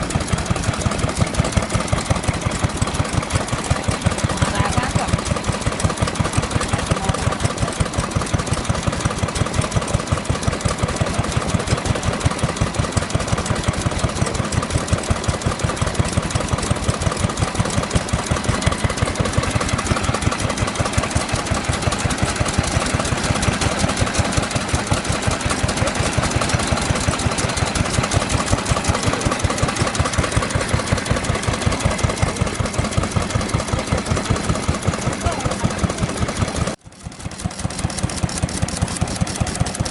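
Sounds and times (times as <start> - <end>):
stationary engine running slowly: 0.0 - 39.9.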